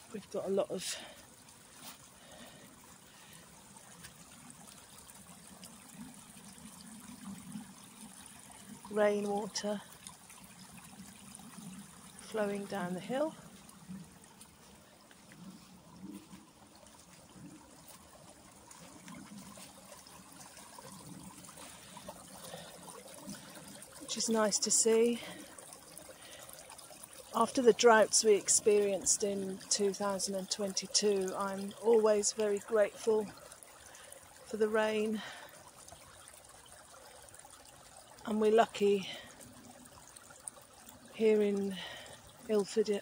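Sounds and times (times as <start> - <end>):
rainwater trickling: 0.0 - 43.0.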